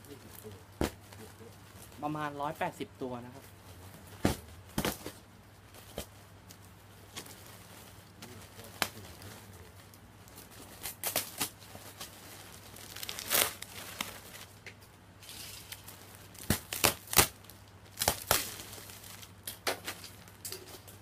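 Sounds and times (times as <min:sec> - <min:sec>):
fabric tearing and crinkling: 0:03.3 - 0:14.6, 0:15.2 - 0:20.9.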